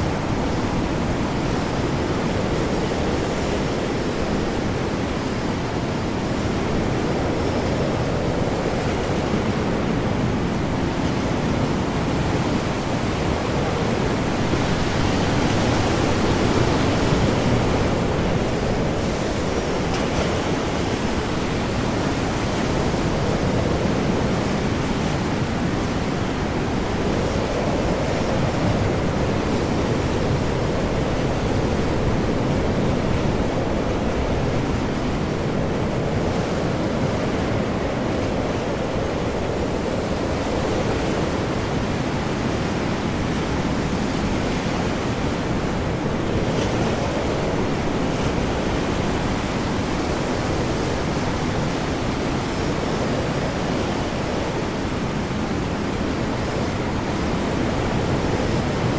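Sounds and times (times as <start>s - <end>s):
heavy ocean waves: 0.0s - 58.9s
high wind: 0.0s - 58.9s.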